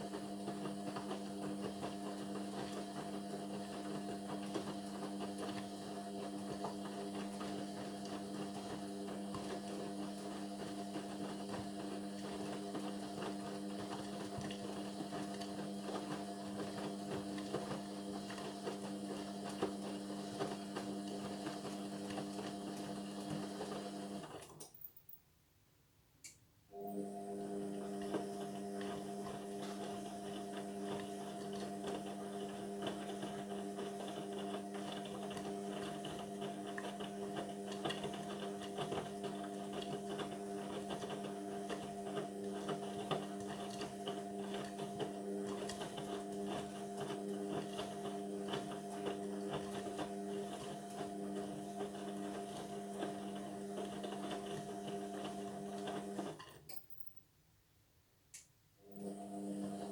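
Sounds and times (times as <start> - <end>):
washing machine electric hum: 0.0 - 25.1, 26.7 - 57.2, 58.8 - 59.9.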